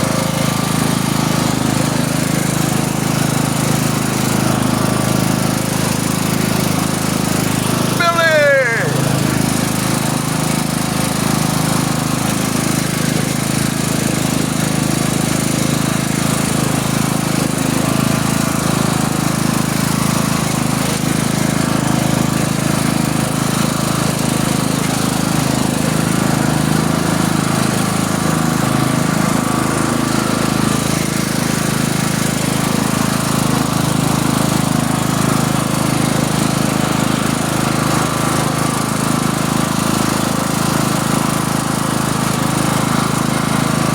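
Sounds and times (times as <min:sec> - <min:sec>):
motor running steadily: 0:00.0 - 0:43.9.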